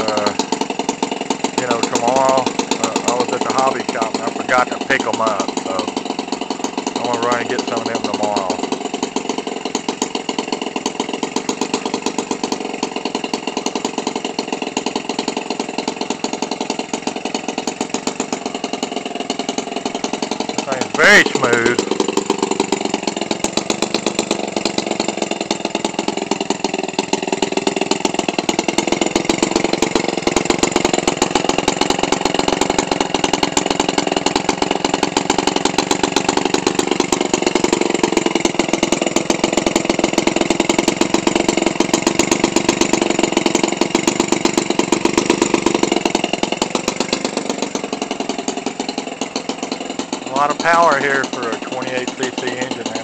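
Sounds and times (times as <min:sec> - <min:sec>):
model airplane engine idling: 0:00.0 - 0:53.0.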